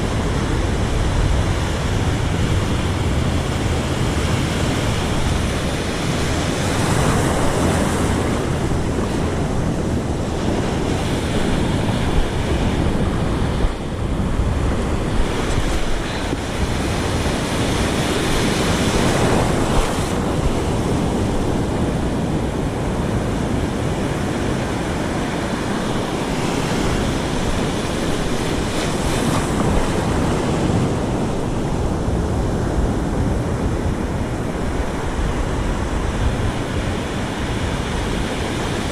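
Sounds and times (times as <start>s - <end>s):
ocean surf breaking on beach: 0.0s - 38.9s
wind buffeting microphone: 0.0s - 38.9s.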